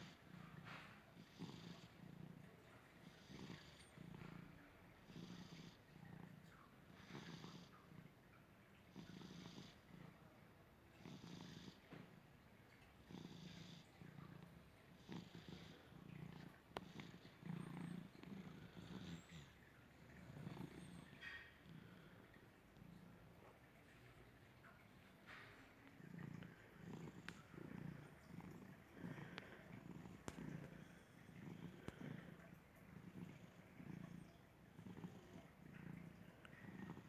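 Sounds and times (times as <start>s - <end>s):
cat snoring with wheeze: 0.0s - 23.6s, 24.8s - 37.0s.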